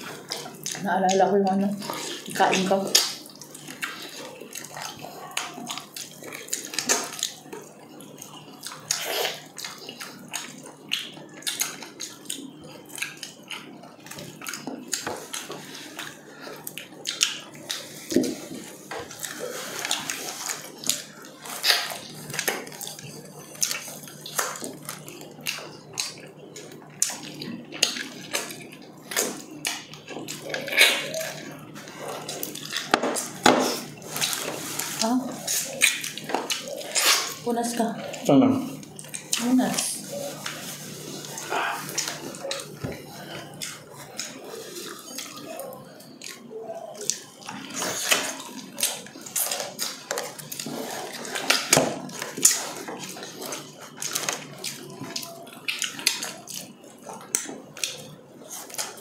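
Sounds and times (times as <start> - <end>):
wet chewing and lip-smacking: 0.0 - 59.0.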